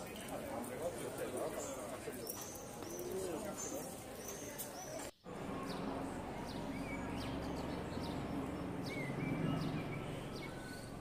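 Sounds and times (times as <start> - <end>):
low hum of city activity: 0.0 - 11.0
birds chirping: 1.4 - 11.0.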